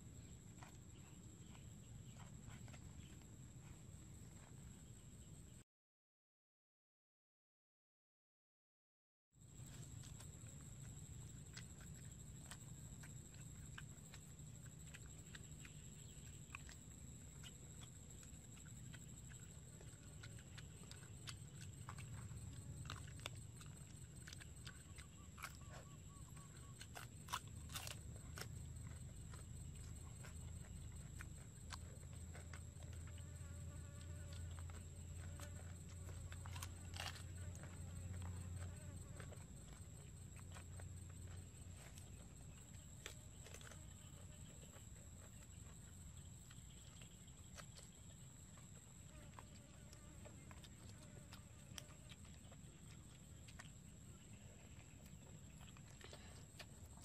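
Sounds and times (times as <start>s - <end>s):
faint chewing: 0.0s - 5.6s, 9.5s - 57.0s.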